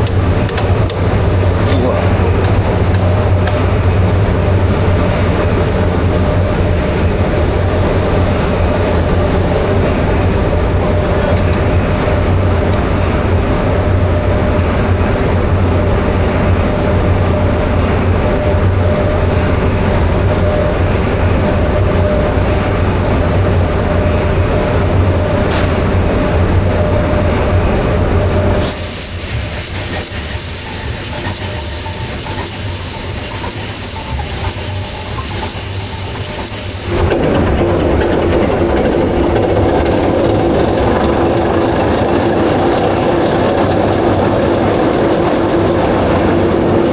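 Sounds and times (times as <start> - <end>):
diesel generator engine running: 0.0 - 25.5, 26.6 - 46.9.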